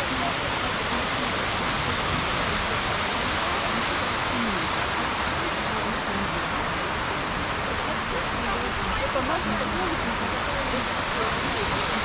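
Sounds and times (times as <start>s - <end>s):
faint distant voices: 0.0s - 12.0s
fountain water splashing: 0.0s - 12.0s.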